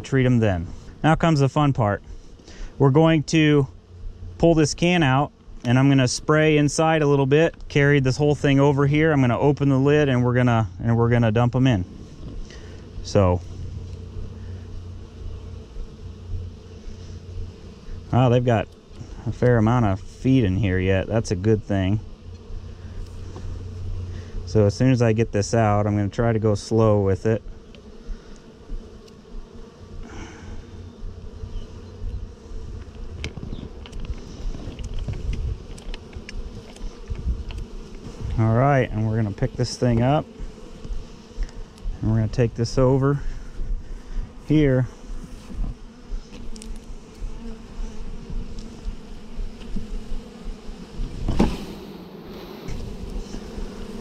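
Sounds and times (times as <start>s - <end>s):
bees humming: 0.0s - 54.0s
honeybees buzzing: 0.0s - 54.0s.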